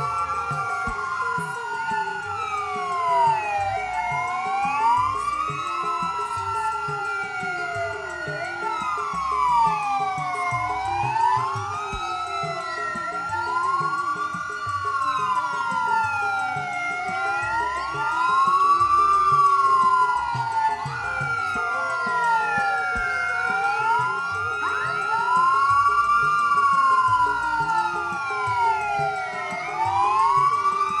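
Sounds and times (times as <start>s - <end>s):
sirens wailing: 0.0s - 31.0s
steady high tone: 0.0s - 31.0s.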